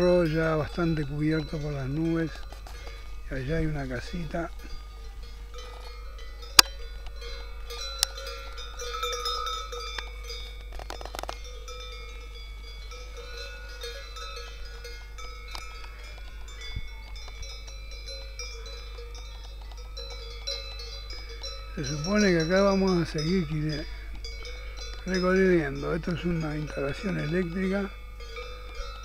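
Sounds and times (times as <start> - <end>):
animal bells clanking: 0.0 - 29.0.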